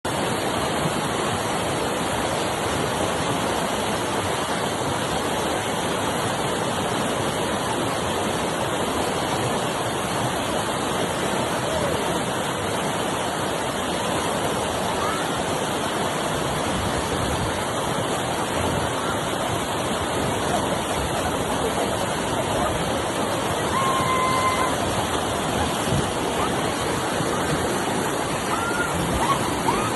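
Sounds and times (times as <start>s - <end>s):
river rapids rushing: 0.1s - 29.9s.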